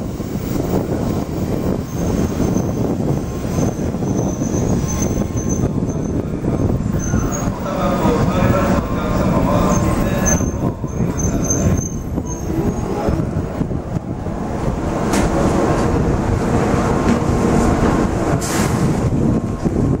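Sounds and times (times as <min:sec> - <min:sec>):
train engine rumbling: 0:00.0 - 0:20.0.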